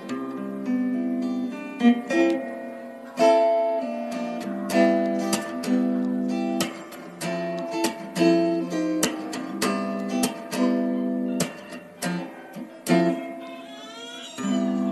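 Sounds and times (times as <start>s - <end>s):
acoustic guitar strumming chords: 0.0s - 14.9s.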